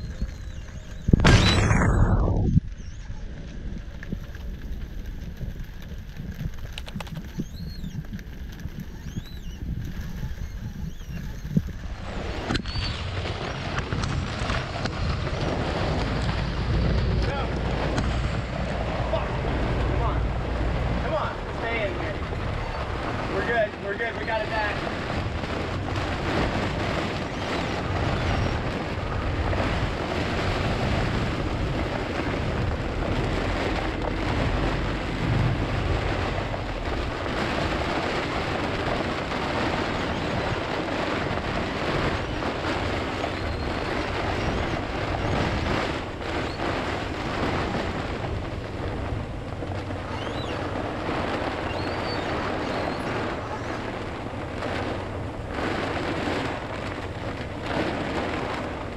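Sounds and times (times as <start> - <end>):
wind gusting on microphone: 0.0 - 58.9
wind-driven rain hissing: 3.4 - 58.9.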